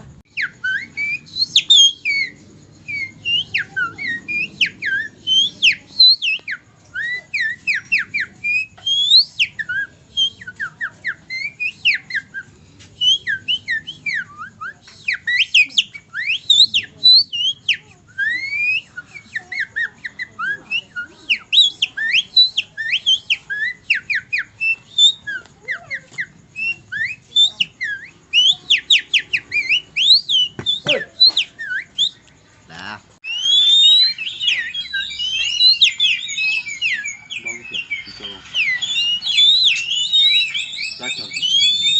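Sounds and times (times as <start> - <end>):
man whistling birdsong imitation: 0.3 - 32.3, 33.2 - 41.9.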